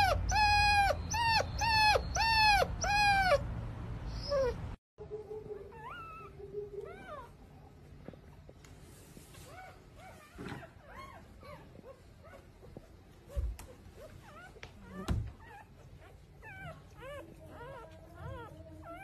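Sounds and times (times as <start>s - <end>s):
puppy whimpers: 0.0s - 3.5s, 4.1s - 7.6s, 9.5s - 19.0s
puppy whining: 0.0s - 3.5s, 4.1s - 8.6s, 9.3s - 19.0s.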